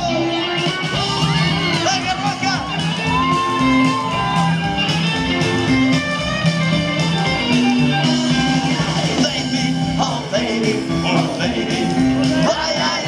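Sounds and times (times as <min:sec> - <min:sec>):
bass notes: 0:00.0 - 0:13.0
electric guitar: 0:00.0 - 0:13.0
steady drum beat: 0:00.0 - 0:13.0.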